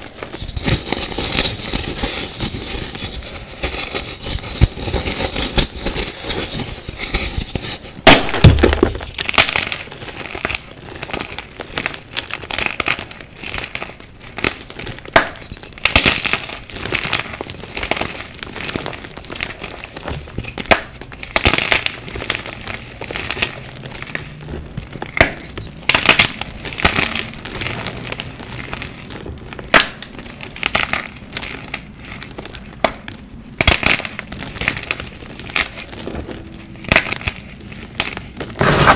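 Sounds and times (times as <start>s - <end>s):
chalk cracking and crunching: 0.0s - 38.9s
powdery crumbling: 0.0s - 38.9s.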